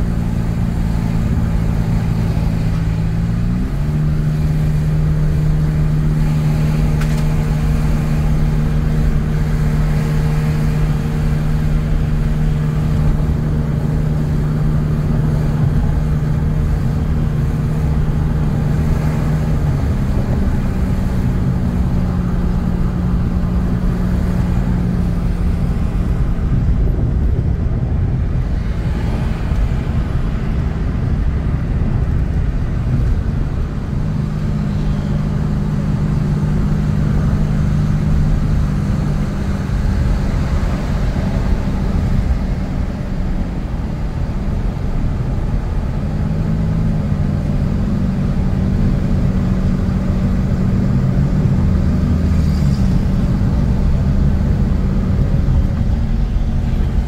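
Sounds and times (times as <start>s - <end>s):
engine drone: 0.0s - 57.0s
vehicle engine and road rumble: 0.0s - 57.0s.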